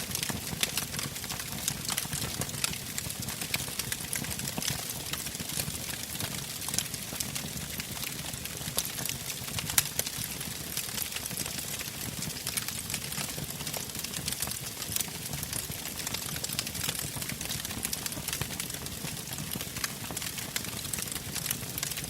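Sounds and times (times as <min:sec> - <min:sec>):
fire crackles and pops: 0:00.0 - 0:22.0.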